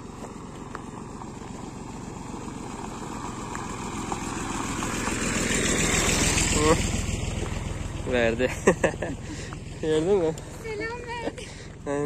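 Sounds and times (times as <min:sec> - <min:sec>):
tractor engine on gravel road: 0:00.0 - 0:12.0.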